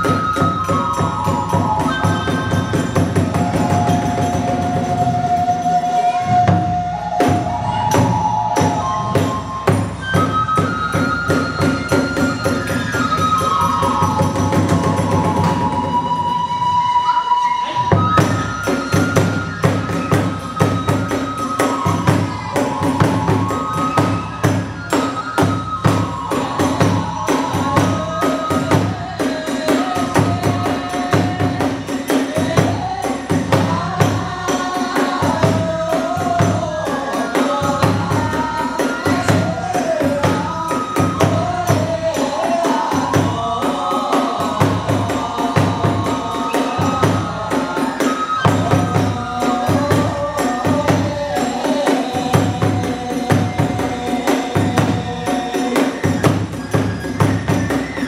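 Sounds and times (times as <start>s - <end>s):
taiko drums beating: 0.0s - 17.0s, 17.8s - 58.0s.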